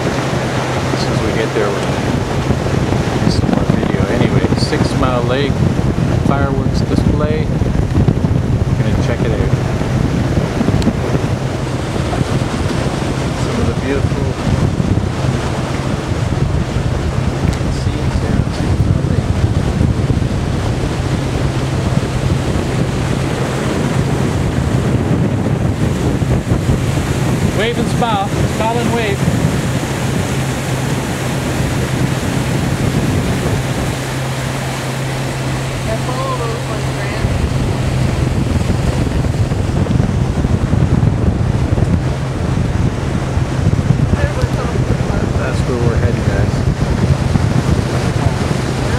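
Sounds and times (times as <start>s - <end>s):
motorboat motor humming: 0.0s - 48.9s
water rushing past hull: 0.0s - 48.9s
wind buffeting microphone: 0.0s - 48.9s.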